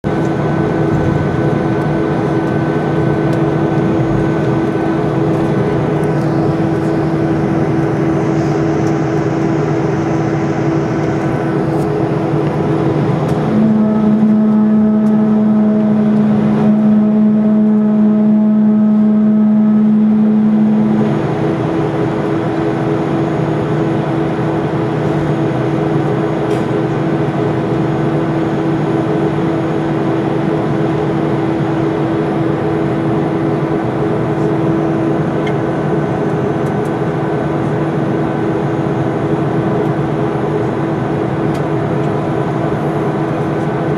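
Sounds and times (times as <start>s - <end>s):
jet engines humming: 0.0s - 43.9s
low engine tone: 0.0s - 43.9s.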